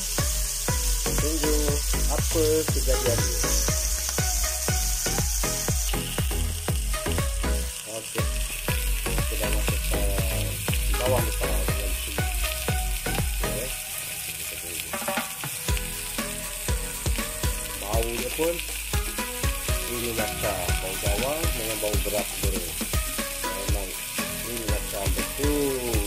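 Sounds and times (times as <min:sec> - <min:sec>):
fish frying in oil: 0:00.0 - 0:26.0.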